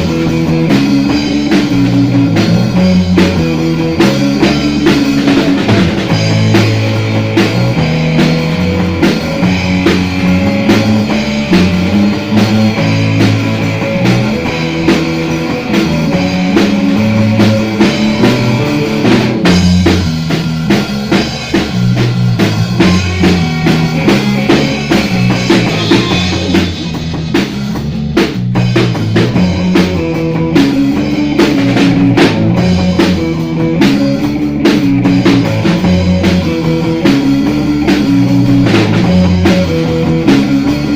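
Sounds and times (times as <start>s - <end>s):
bass guitar line: 0.0s - 40.9s
drum kit: 0.0s - 40.9s
electric guitar: 0.0s - 40.9s
instrumental rock band: 0.0s - 40.9s.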